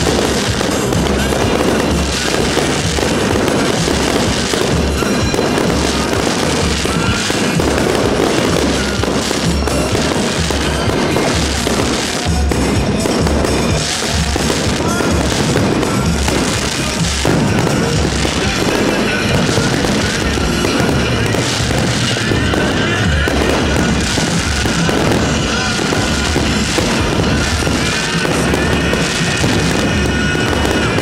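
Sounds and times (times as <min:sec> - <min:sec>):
fireworks bursts and pops: 0:00.0 - 0:31.0
loud music with steady beat: 0:00.0 - 0:31.0.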